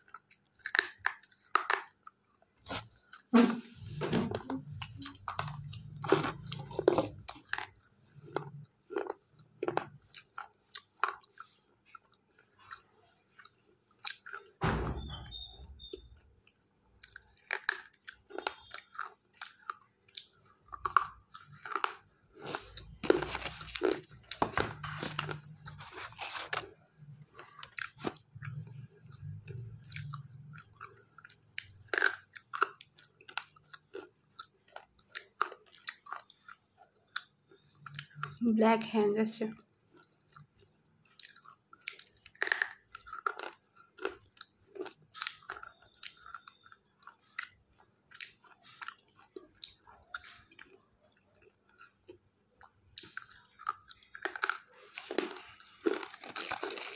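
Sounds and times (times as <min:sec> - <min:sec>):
slate pencils crunching in mouth: 0:00.0 - 0:14.6, 0:16.4 - 0:38.4, 0:39.9 - 0:56.9.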